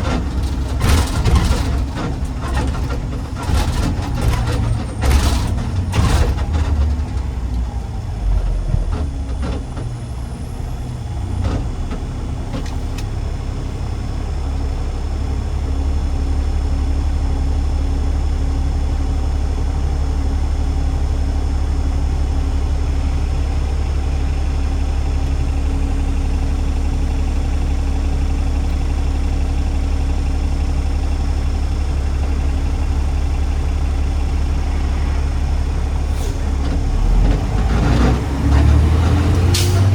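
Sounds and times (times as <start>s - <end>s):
garbage truck engine droning: 0.0s - 39.9s.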